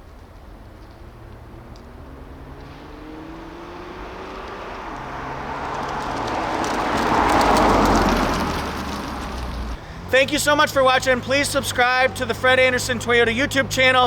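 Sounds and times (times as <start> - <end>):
car engine and exhaust passing: 0.0 - 14.0.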